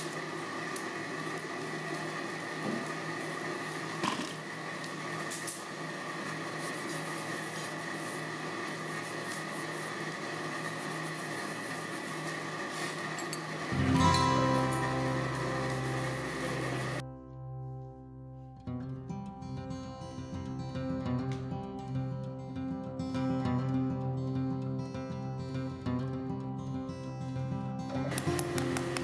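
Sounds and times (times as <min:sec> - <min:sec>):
motor hum with high whine: 0:00.0 - 0:18.4, 0:19.0 - 0:29.0.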